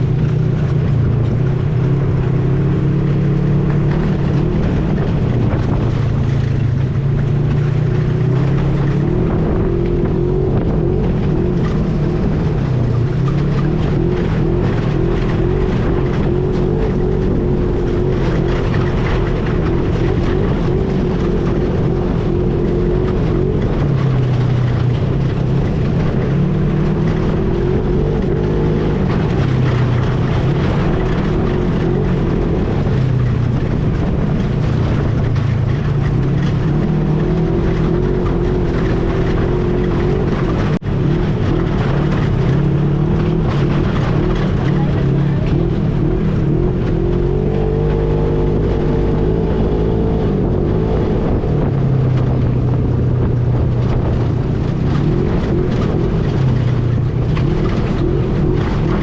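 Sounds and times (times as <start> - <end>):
atv engine running: 0.0 - 59.0
rumble of wind and terrain: 0.0 - 59.0.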